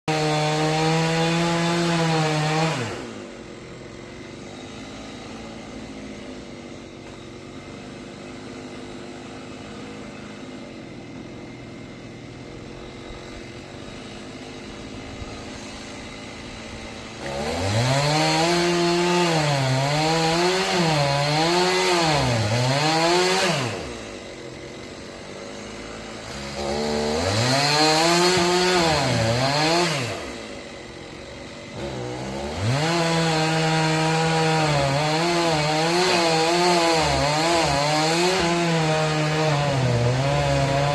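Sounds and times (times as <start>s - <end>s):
chainsaw cutting tree trunk: 0.0s - 40.9s.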